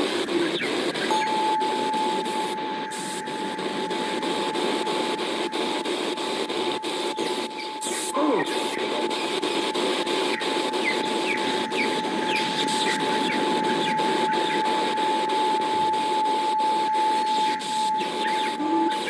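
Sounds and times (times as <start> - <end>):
recorded birdsong chirps: 0.0 - 19.0
steady hiss: 0.0 - 19.0
thin steady whine: 0.0 - 19.0.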